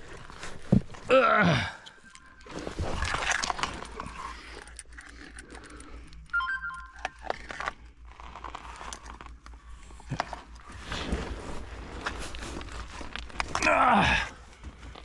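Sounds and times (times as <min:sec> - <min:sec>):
clothing and foil rustling: 0:00.0 - 0:05.6, 0:07.2 - 0:15.0.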